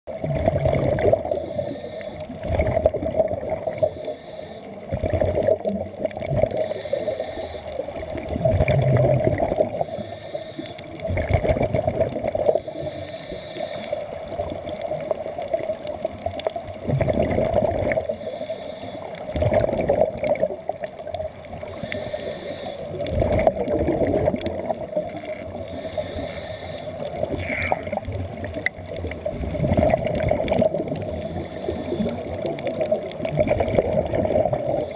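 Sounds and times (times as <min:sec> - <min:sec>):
underwater air bubbling: 0:00.1 - 0:34.9.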